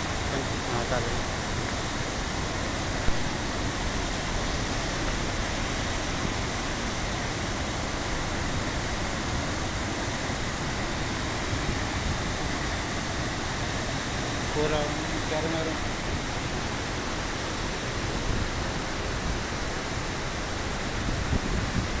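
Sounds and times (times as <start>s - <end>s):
whitewater rushing over rocks: 0.0s - 22.0s.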